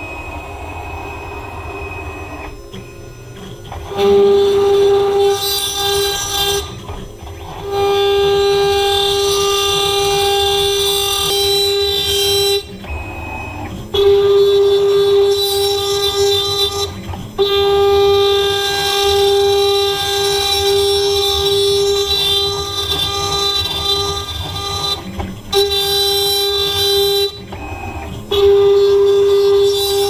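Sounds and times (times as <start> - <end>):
router spindle cutting metal: 0.0 - 30.0.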